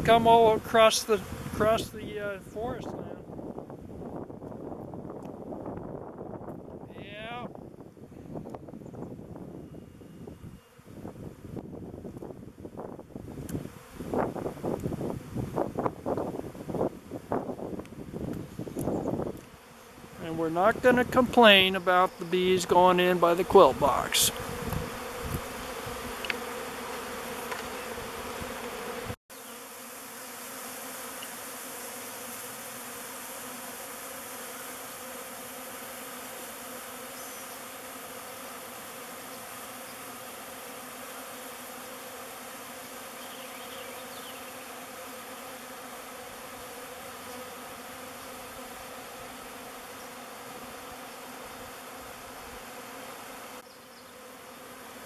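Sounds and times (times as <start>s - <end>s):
bees buzzing: 0.0s - 55.0s.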